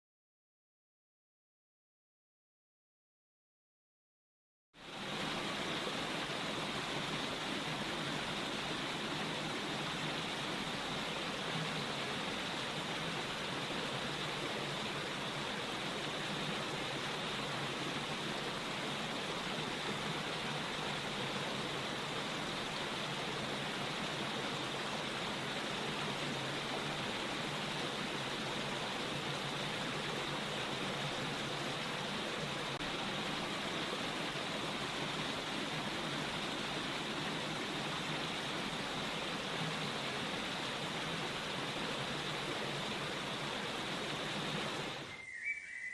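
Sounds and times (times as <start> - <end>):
rushing water: 4.8 - 45.3.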